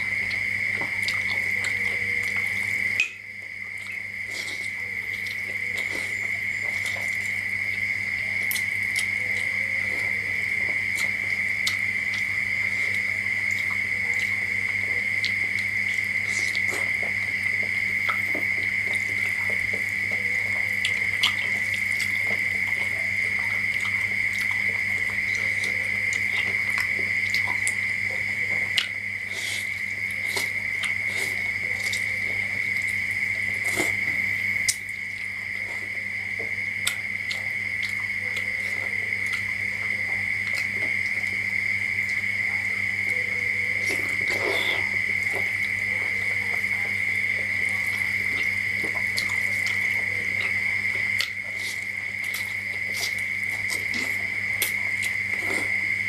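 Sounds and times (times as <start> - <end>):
wet chewing clicks and smacks: 0.0 - 35.7, 36.3 - 41.4, 43.8 - 55.8.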